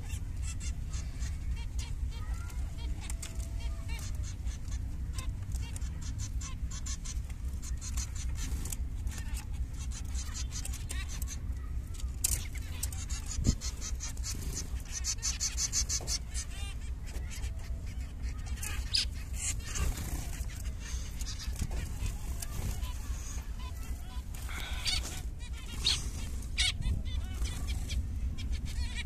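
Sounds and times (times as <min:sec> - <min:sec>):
finches calling: 0:00.0 - 0:29.0
low steady rumble: 0:00.0 - 0:29.0.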